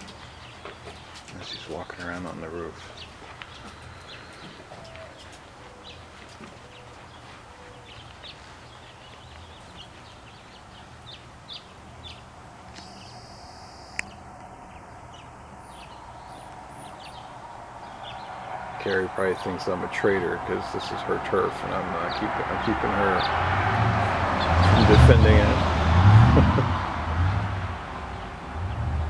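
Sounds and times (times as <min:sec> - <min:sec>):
small birds chirping: 0:00.0 - 0:23.4.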